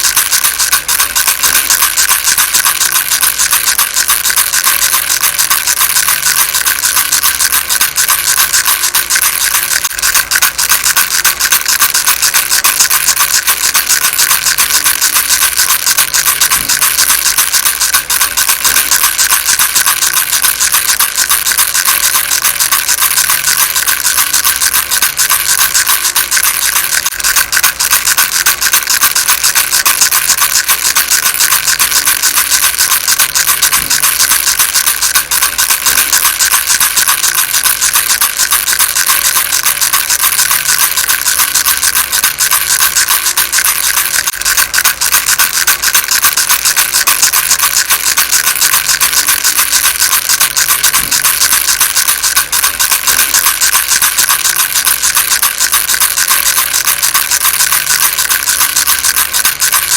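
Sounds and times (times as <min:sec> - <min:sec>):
baby rattle shaken: 0:00.0 - 0:59.9.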